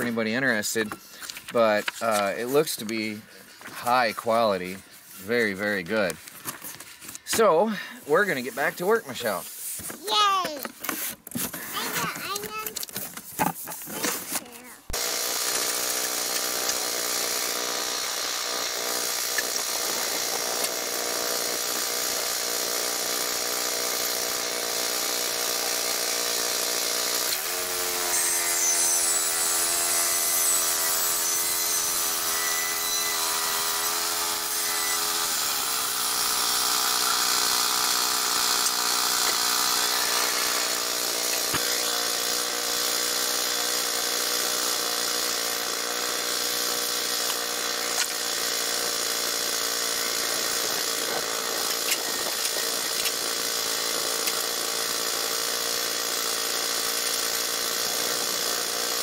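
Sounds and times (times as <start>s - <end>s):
bandsaw mill engine cutting log: 0.0s - 6.2s, 14.9s - 59.0s.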